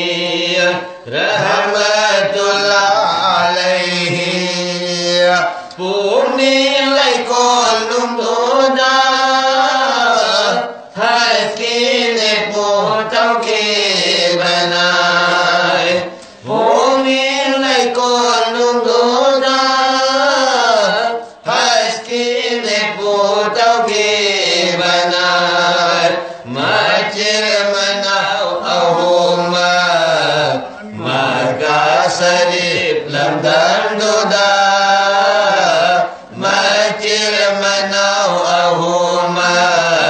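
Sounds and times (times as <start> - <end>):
men singing devotional song: 0.0 - 40.0.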